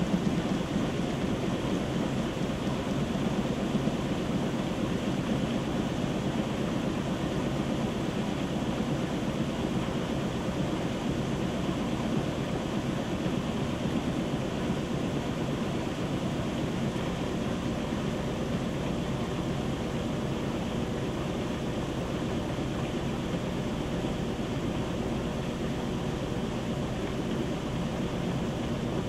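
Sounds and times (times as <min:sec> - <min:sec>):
washing machine spinning: 0:00.0 - 0:29.0.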